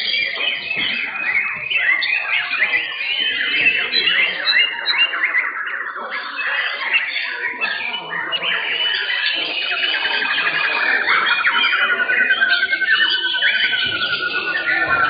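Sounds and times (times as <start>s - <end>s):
birds singing with whistles and trills: 0.0s - 15.0s.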